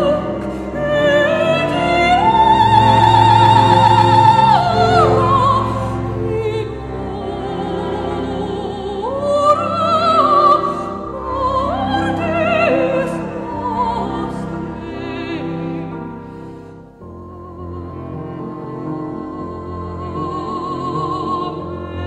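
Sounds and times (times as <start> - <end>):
classical accompaniment: 0.0 - 22.0
operatic singing with vibrato: 0.0 - 22.0.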